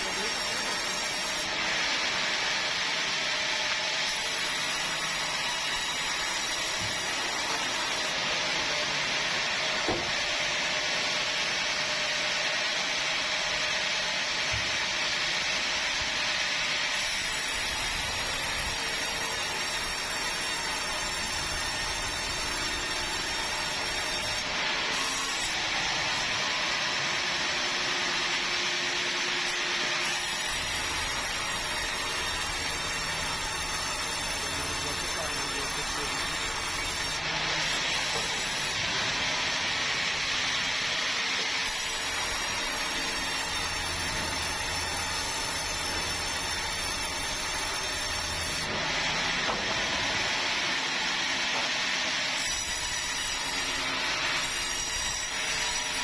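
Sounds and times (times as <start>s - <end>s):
saw blade cutting wood: 0.0s - 2.1s, 3.2s - 8.9s, 9.7s - 10.4s, 15.4s - 40.2s, 41.2s - 50.2s, 51.4s - 56.0s.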